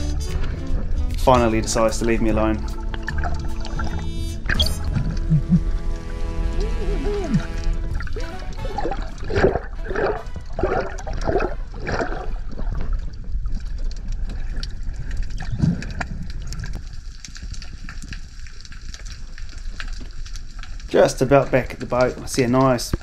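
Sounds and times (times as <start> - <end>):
water sloshing and gurgling: 0.0 - 20.9.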